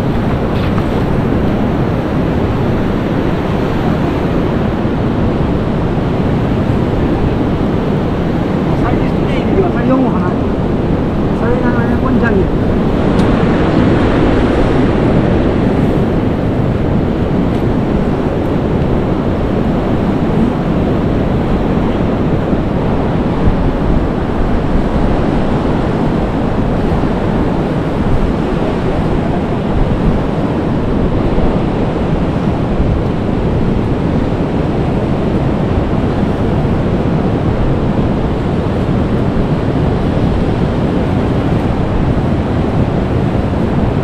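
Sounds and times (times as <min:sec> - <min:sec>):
surf washing on beach: 0:00.0 - 0:44.0
wind on microphone: 0:00.0 - 0:44.0.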